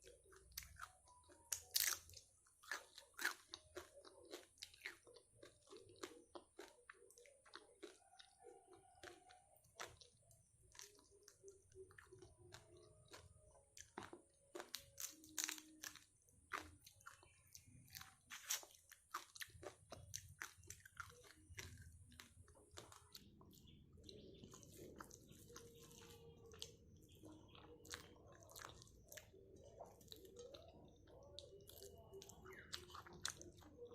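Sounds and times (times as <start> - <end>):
person chewing crunchy food: 0.0 - 33.9.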